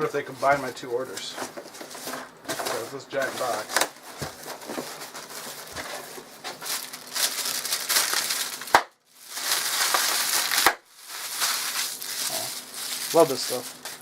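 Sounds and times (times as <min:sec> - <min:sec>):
paper and cardboard crinkling: 0:00.0 - 0:14.0.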